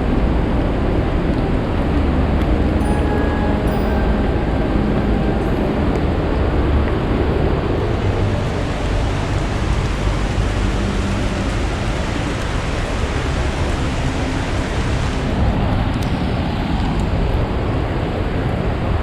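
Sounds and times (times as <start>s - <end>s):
rain falling: 0.0s - 18.6s
low rumble: 0.0s - 18.8s.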